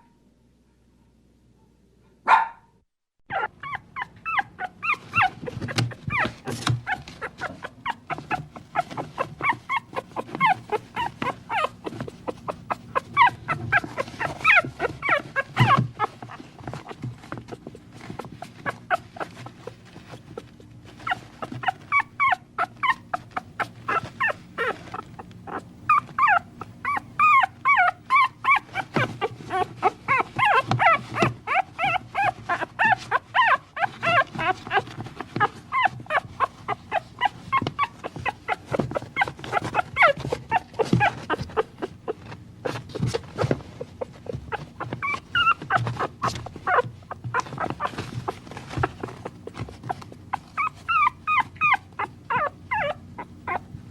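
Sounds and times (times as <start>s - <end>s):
puppies whimpering and yipping: 3.3s - 53.9s.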